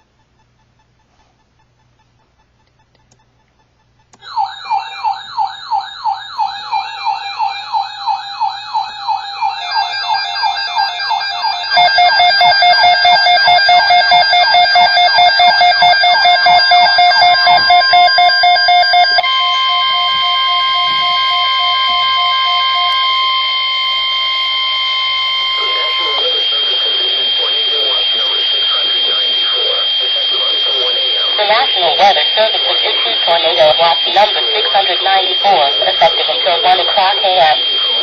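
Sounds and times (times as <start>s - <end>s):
electronic alert siren: 4.2s - 38.0s.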